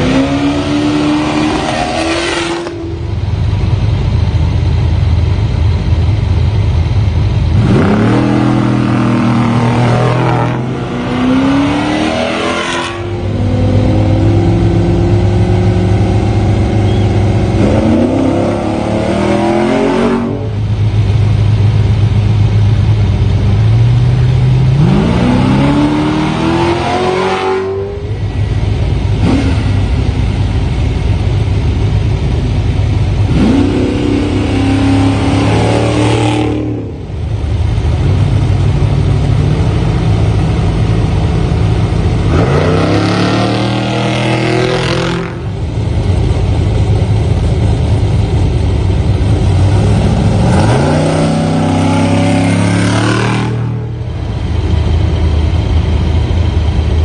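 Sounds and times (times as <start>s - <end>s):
race trucks revving and accelerating: 0.0s - 3.5s, 7.4s - 21.6s, 23.5s - 30.8s, 32.1s - 57.0s.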